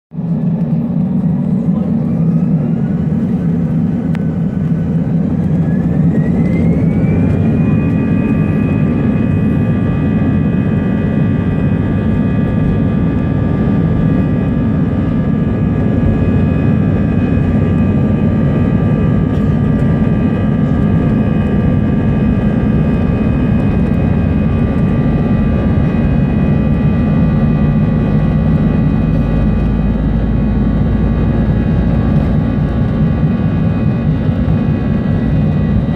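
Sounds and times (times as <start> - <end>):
heavy rumble of takeoff roll: 0.1 - 35.9
jet engines whining: 0.2 - 35.9.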